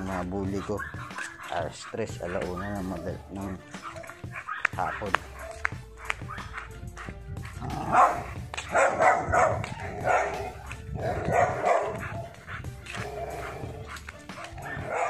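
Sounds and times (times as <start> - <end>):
background music: 0.0 - 15.0
dog barking: 0.0 - 15.0.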